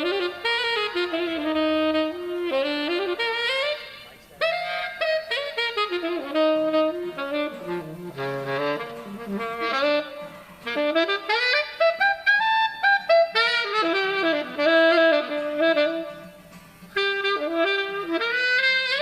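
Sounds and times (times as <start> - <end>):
solo jazz saxophone: 0.0 - 19.0.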